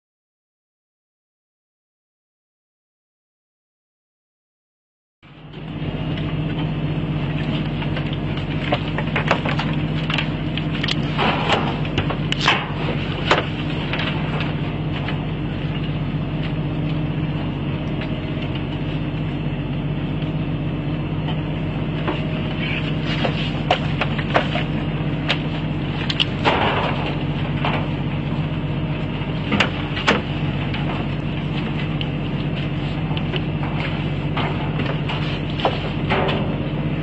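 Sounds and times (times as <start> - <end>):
boat engine droning: 5.2 - 37.0.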